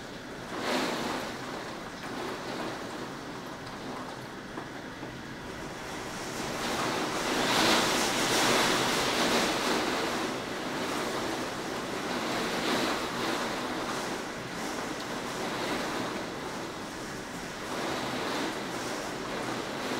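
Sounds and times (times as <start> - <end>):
heavy rain: 0.0 - 19.9
wind: 0.0 - 19.9.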